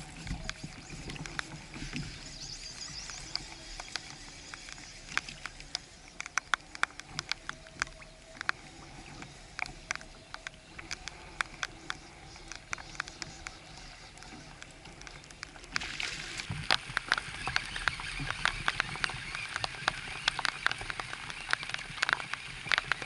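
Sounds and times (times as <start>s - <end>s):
choppy water: 0.0s - 23.0s
wind: 0.0s - 23.0s
sharp taps and ticks: 2.6s - 8.9s, 9.5s - 15.8s, 16.6s - 23.0s.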